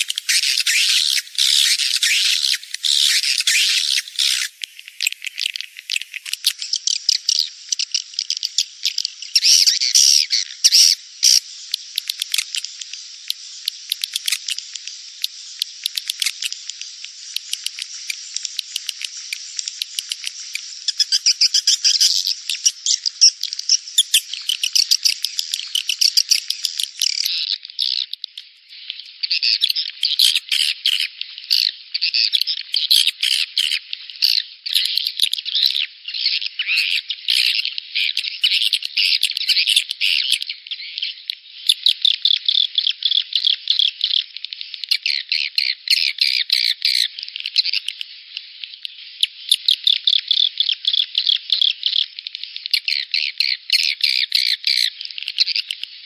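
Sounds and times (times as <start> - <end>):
swiftlet twittering chirps and trills: 0.0 - 56.0.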